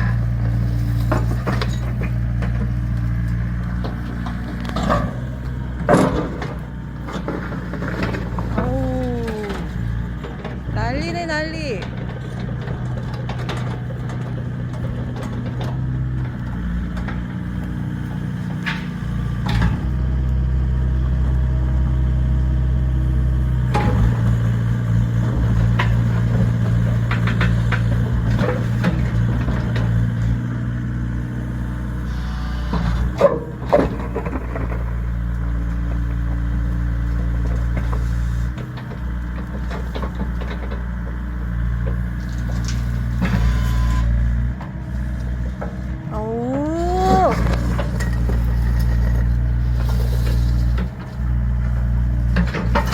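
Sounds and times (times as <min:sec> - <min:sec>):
machine knocking and scraping: 0:00.0 - 0:08.7, 0:11.8 - 0:20.2, 0:23.4 - 0:30.6, 0:31.9 - 0:46.0, 0:47.2 - 0:52.9
excavator diesel engine running: 0:00.0 - 0:52.9.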